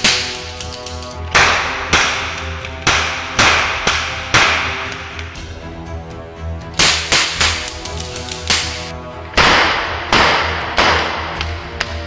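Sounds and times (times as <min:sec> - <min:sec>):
cap guns firing: 0:00.0 - 0:05.4, 0:06.8 - 0:12.0.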